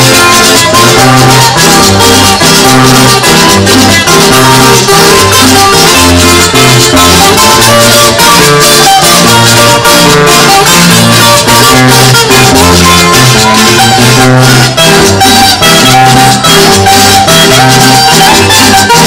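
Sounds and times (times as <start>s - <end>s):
bass notes: 0.0s - 19.0s
plucked lead melody: 0.0s - 19.0s
rattling percussion: 0.0s - 19.0s
strummed acoustic guitars: 0.0s - 19.0s.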